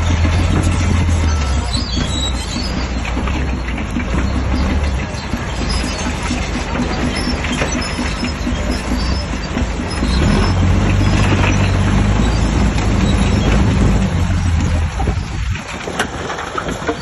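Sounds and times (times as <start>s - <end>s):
bulldozer diesel engine: 0.0s - 17.0s
steel tracks clanking: 0.0s - 17.0s.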